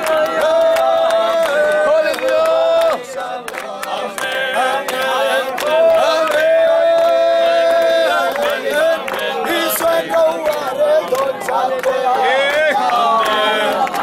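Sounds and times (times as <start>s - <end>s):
voices singing a slow hymn: 0.0s - 14.0s.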